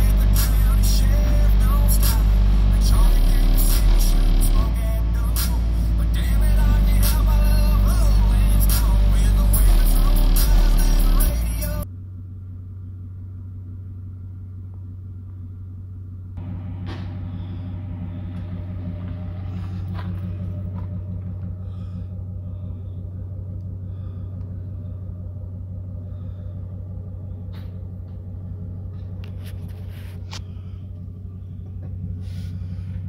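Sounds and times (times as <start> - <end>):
deep car cabin rumble: 0.0 - 33.0.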